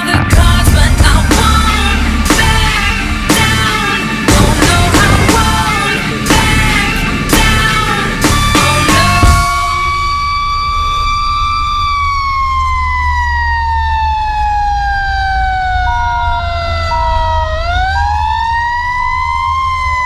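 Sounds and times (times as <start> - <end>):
truck rumbling: 0.2 - 20.0
fire engine siren: 1.4 - 20.0.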